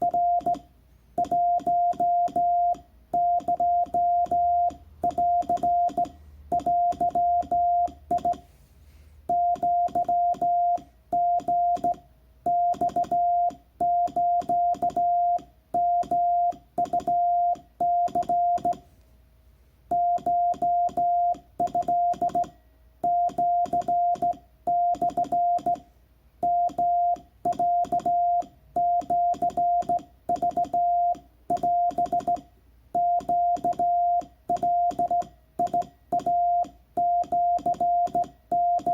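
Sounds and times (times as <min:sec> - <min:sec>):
morse code tone: 0:00.0 - 0:08.5, 0:09.3 - 0:18.8, 0:19.9 - 0:25.8, 0:26.4 - 0:32.4, 0:33.0 - 0:38.9.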